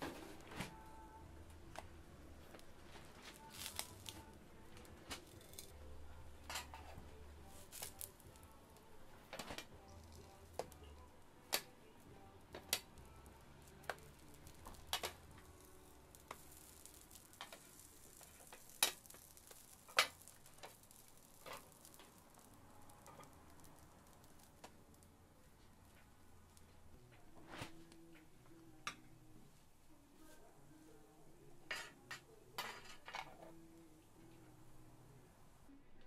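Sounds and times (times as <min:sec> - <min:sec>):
faint sizzle of frying: 0:00.0 - 0:35.8.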